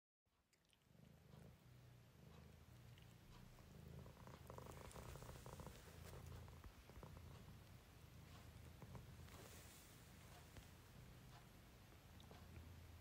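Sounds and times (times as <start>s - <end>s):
cat purring: 0.4s - 13.0s.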